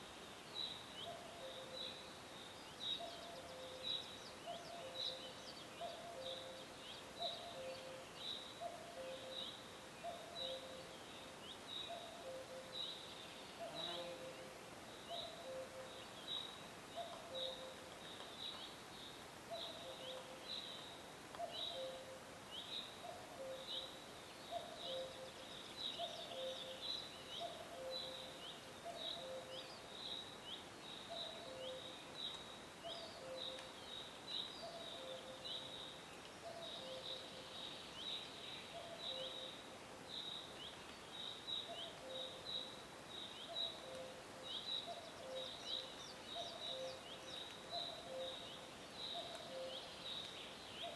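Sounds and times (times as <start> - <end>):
faint background hiss: 0.0 - 50.9
small birds chirping: 0.4 - 50.9.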